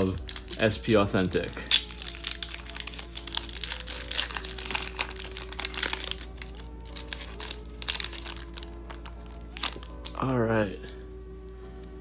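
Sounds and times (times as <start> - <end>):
foil wrapper crinkling: 0.0 - 10.9.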